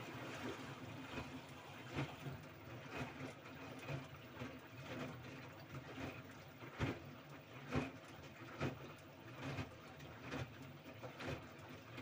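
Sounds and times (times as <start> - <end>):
washing machine water sloshing: 0.0 - 12.0.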